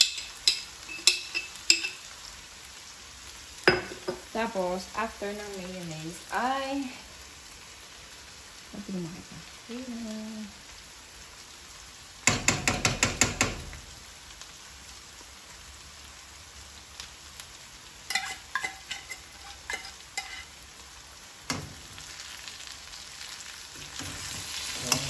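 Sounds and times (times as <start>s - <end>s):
frying pan sizzling: 0.0s - 25.0s.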